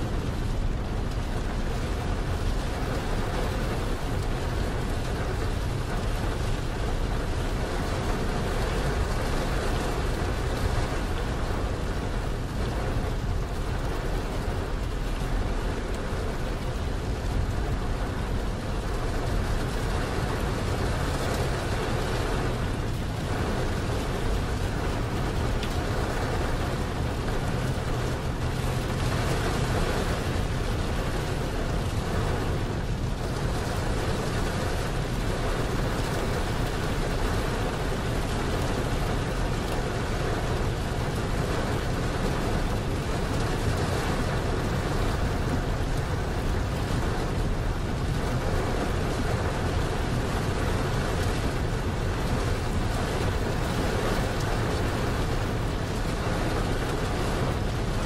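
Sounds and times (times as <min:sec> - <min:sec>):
heavy rain on truck windshield: 0:00.0 - 0:58.0
truck engine and tyre noise: 0:00.0 - 0:58.0.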